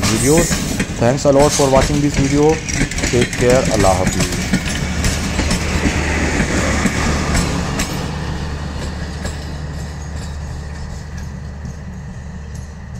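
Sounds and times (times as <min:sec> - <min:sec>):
train running on rails: 0:00.0 - 0:12.9
train wheel clicks: 0:00.0 - 0:12.9.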